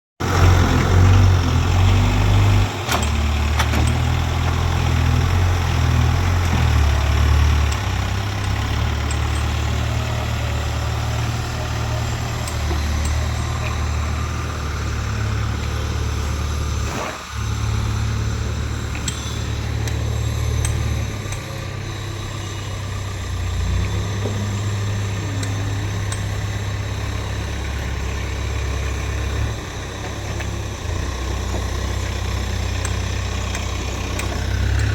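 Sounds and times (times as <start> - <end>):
heavy diesel engines running: 0.2 - 34.9.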